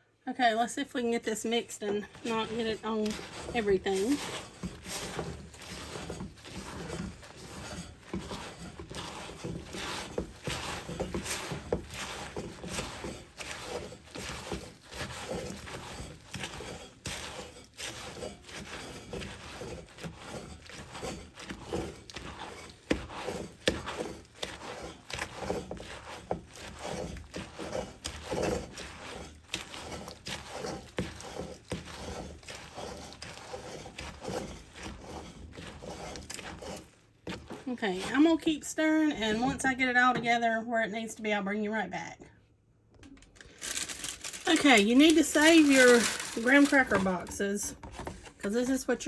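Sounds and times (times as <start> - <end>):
spoon scraping sticky mixture: 0.9 - 40.5, 43.2 - 49.0.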